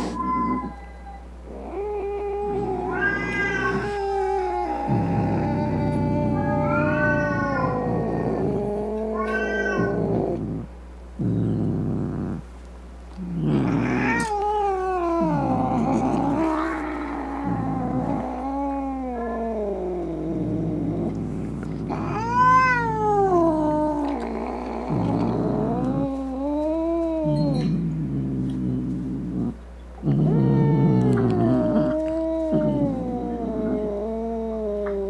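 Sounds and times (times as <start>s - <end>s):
angry cat meowing: 1.5s - 10.4s, 13.5s - 27.8s, 30.1s - 35.0s.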